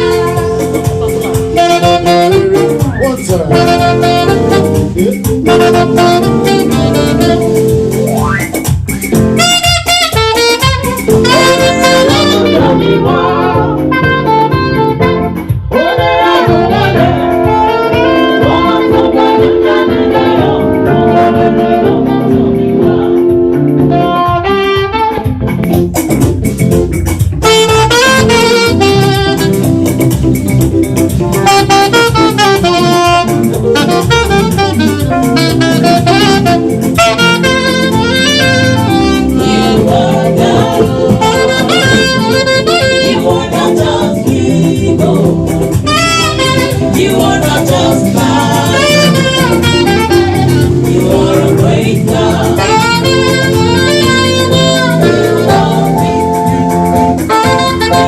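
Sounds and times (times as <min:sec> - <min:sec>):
band accompaniment: 0:00.0 - 0:58.0
saxophone melody: 0:00.0 - 0:58.0.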